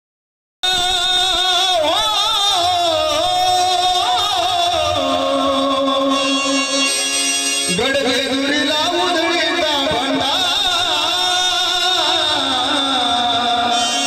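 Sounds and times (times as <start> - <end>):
devotional folk music: 0.6 - 14.0
person singing ornamented melody: 0.7 - 14.0.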